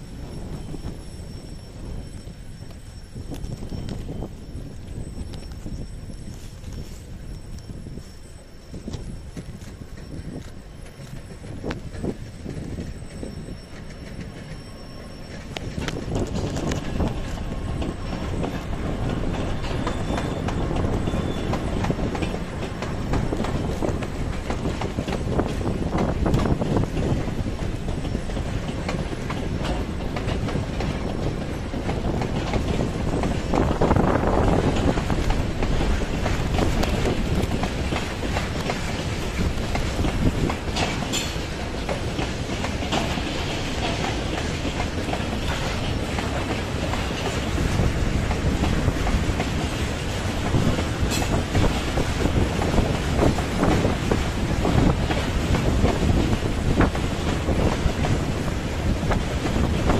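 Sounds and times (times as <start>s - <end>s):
train rumbling: 0.0s - 59.9s
train wheels clacking over rail joints: 8.8s - 59.9s.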